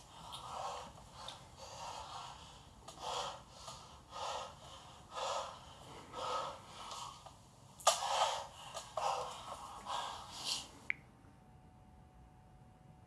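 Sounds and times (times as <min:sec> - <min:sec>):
person breathing heavily: 0:00.0 - 0:10.9.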